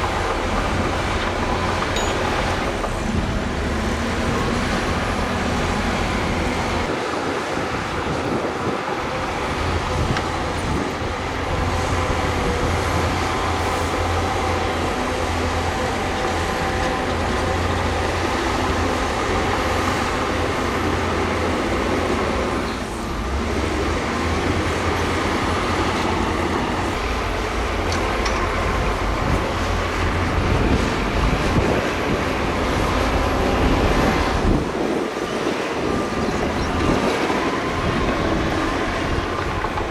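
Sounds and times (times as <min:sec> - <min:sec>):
heavy diesel machinery droning: 0:00.0 - 0:39.9.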